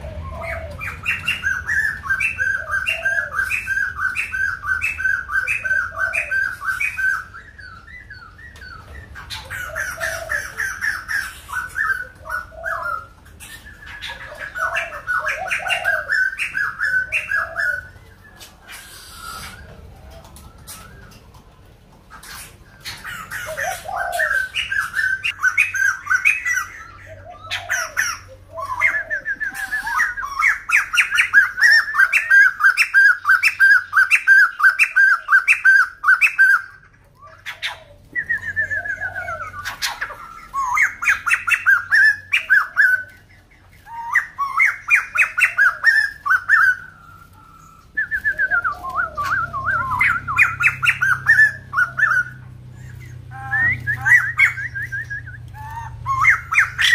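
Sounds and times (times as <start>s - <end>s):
bird singing rapid repeated notes: 0.0s - 56.9s.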